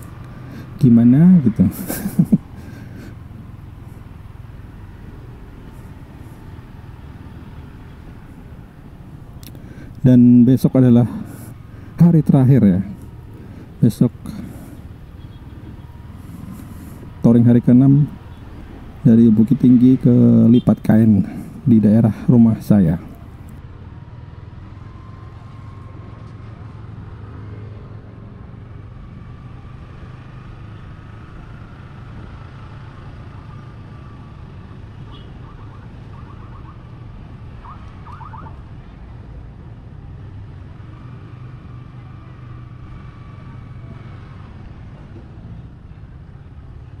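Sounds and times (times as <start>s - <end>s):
traffic: 0.0s - 47.0s.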